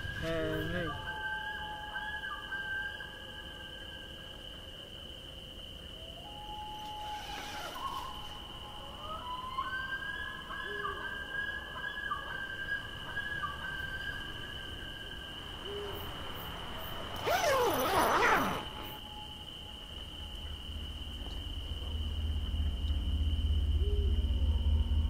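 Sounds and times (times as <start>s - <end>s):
cricket trill: 0.0s - 25.0s.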